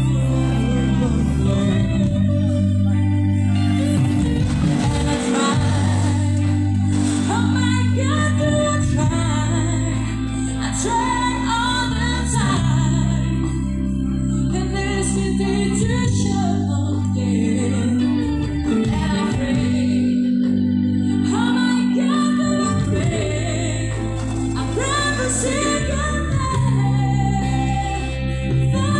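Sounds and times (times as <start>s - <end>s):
music with held low notes: 0.0s - 28.9s
person singing: 0.0s - 28.9s.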